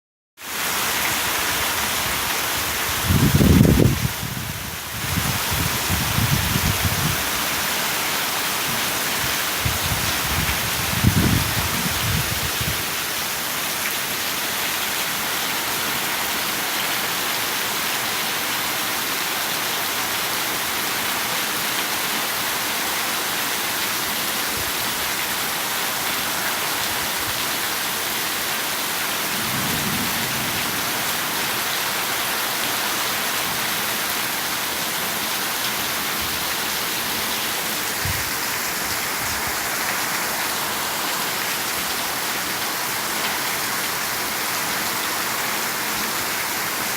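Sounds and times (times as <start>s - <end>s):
rain falling: 0.4s - 46.9s.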